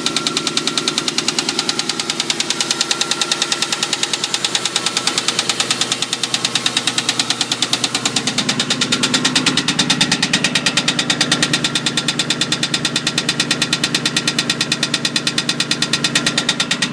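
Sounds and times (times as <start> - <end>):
car engine running: 0.0 - 16.9
rapid even engine knock: 0.0 - 16.9.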